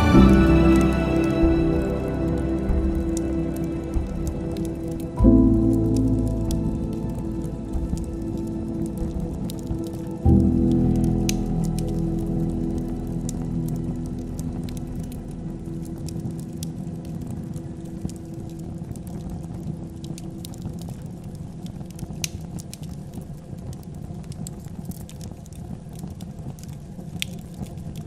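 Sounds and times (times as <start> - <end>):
soft sustained music notes: 0.0 - 22.7
wood fire crackling: 0.0 - 28.0.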